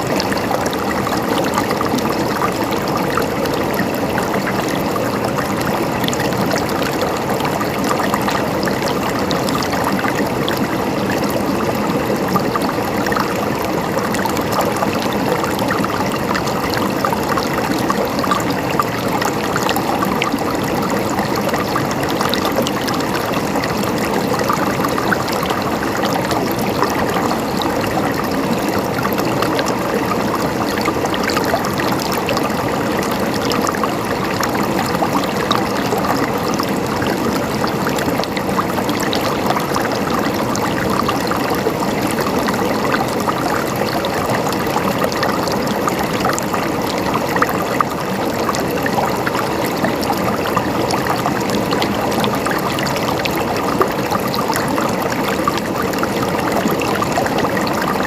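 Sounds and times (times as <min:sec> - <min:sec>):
running water gurgling: 0:00.0 - 0:58.0.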